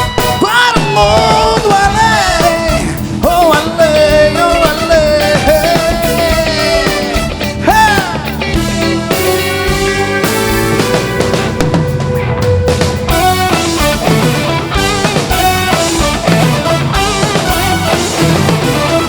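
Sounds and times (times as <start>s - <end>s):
pop-rock band playing: 0.0s - 19.0s
sliding lead melody: 0.0s - 19.0s.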